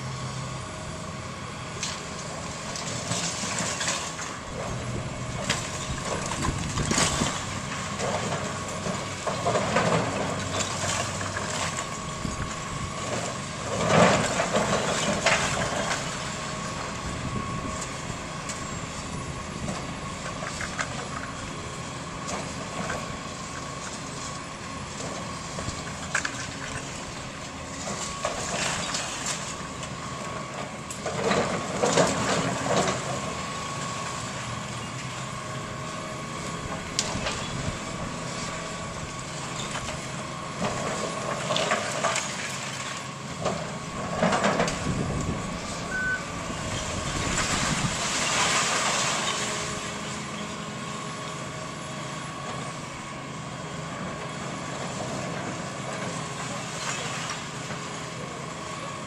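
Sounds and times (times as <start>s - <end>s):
excavator diesel engine whining: 0.0s - 59.0s.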